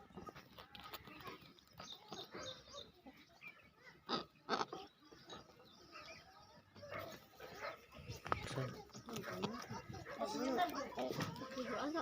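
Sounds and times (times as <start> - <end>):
farmyard birds and animals calling: 0.0 - 12.0.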